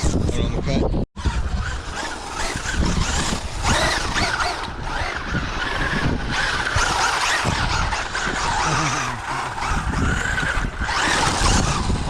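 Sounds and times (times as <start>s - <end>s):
electric motor whining: 1.2s - 12.0s
tire and running noise: 1.2s - 12.0s.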